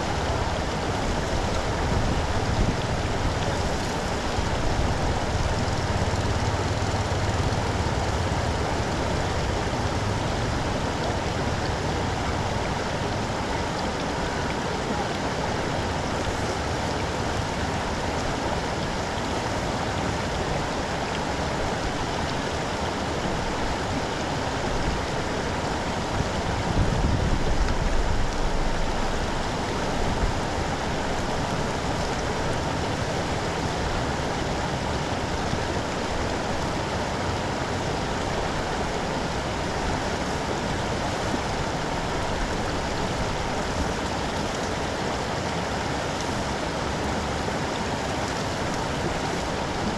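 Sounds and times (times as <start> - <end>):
low water rumble: 0.0 - 49.9
water rushing into storm drain: 0.0 - 49.9.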